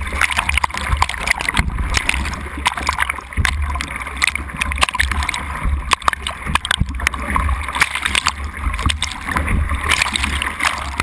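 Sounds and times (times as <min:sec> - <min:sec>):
whitewater rushing and splashing: 0:00.0 - 0:11.0.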